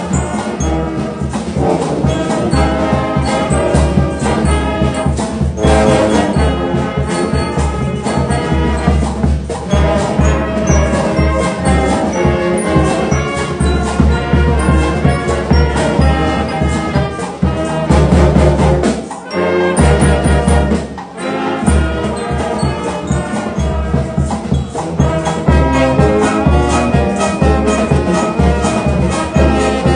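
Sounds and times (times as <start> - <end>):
brass band playing: 0.0 - 29.9.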